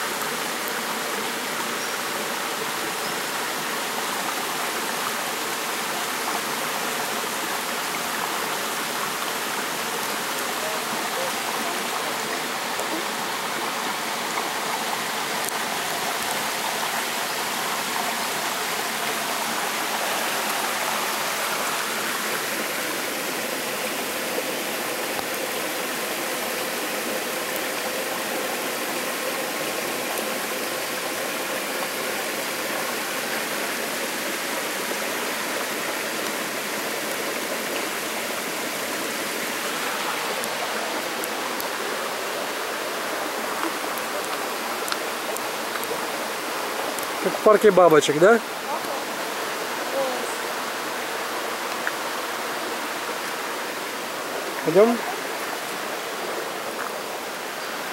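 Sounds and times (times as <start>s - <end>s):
water flowing over rocks: 0.0s - 57.9s.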